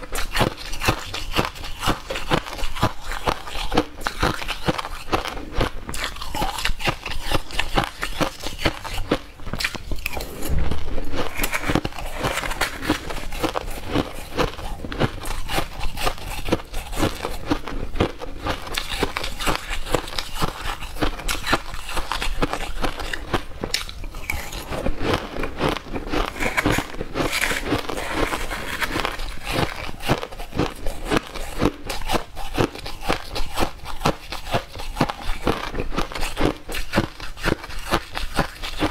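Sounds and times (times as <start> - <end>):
crushed ice being chewed: 0.0 - 38.9.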